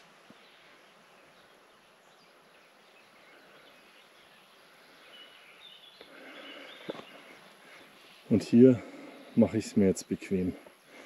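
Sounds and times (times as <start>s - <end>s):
faint woodland ambience: 0.0s - 11.0s.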